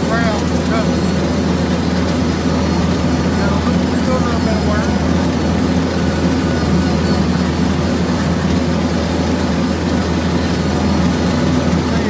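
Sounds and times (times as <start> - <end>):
rotary cutter mowing grass: 0.0 - 12.0
tractor diesel engine running: 0.0 - 12.0.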